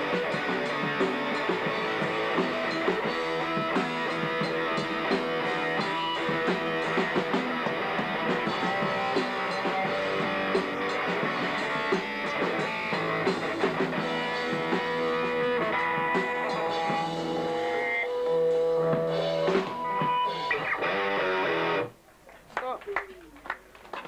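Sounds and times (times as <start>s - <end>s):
rock band playing: 0.0s - 21.9s.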